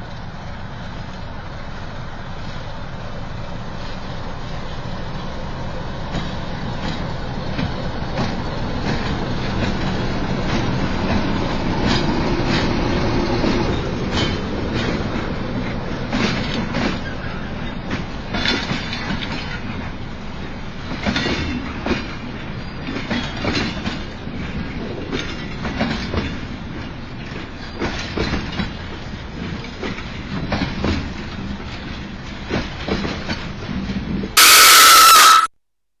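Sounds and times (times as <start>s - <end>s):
train wheels rumbling on rail: 0.0s - 34.4s
wheels clacking over rail joints: 3.8s - 34.4s.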